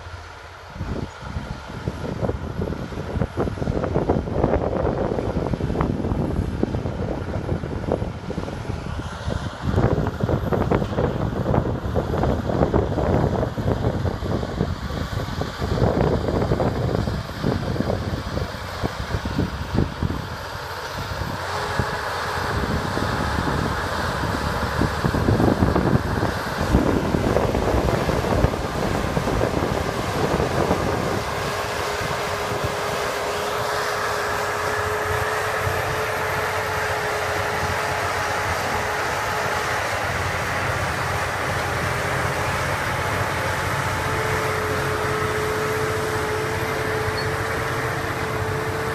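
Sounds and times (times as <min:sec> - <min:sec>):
diesel bulldozer engine under load: 0:00.0 - 0:48.9
wind buffeting microphone: 0:00.7 - 0:48.9.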